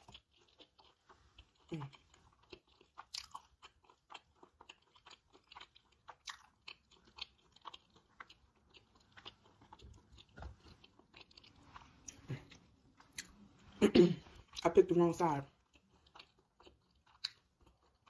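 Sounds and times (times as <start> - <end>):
chewing crispy food: 0.0 - 18.0.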